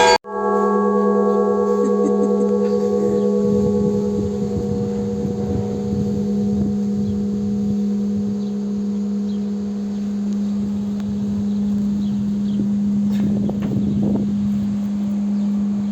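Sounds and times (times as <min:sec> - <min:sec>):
large church bell ringing: 0:00.0 - 0:15.9.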